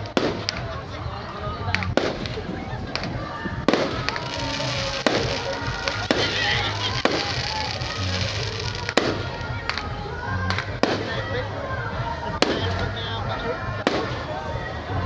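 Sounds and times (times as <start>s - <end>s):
fireworks bursting: 0.0s - 15.0s
music with pulsing bass beat: 0.0s - 15.0s
voices in background: 0.0s - 15.0s.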